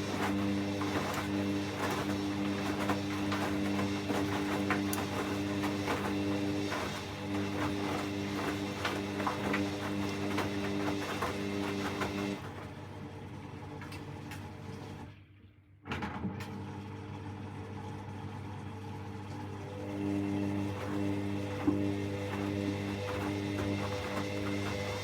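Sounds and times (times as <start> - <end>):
washing machine spinning: 0.0 - 15.2, 16.3 - 25.0.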